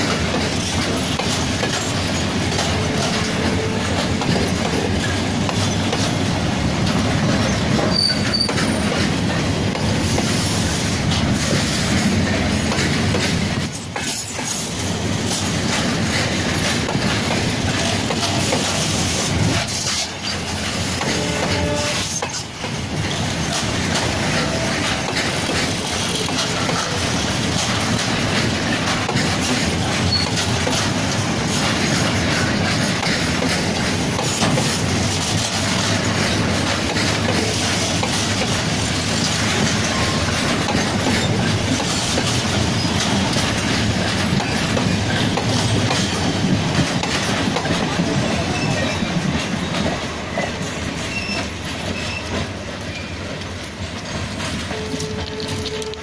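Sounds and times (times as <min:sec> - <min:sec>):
train wheels running over rails: 0:00.0 - 0:56.0.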